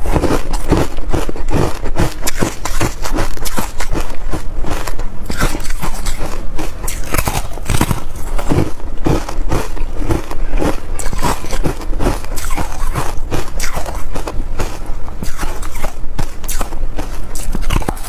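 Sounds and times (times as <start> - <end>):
crunching ice chunks: 0.0 - 18.0.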